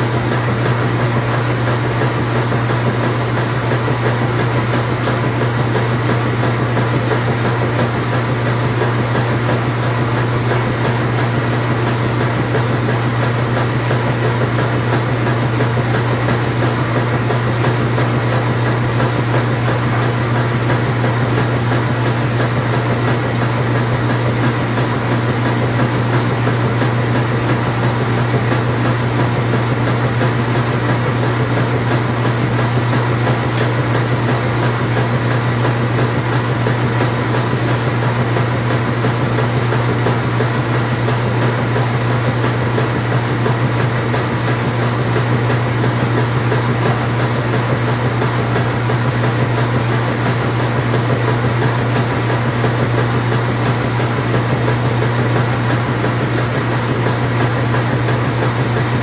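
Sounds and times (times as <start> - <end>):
engine droning steadily: 0.0 - 59.0.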